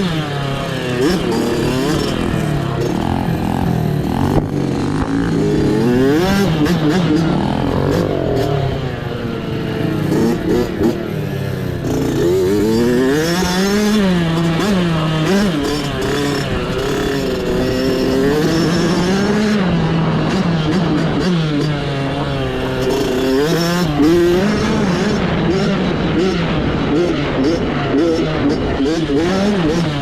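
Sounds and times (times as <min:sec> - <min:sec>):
small engine revving: 0:00.0 - 0:30.0.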